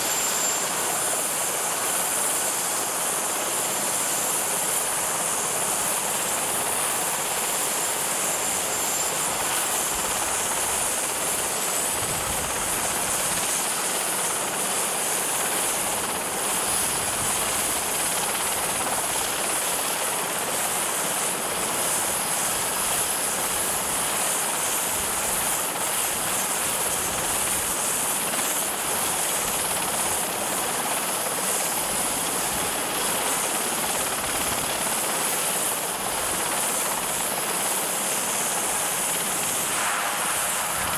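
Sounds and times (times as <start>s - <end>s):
constant rushing noise: 0.0s - 40.9s
helicopter turbine whine: 0.0s - 40.9s.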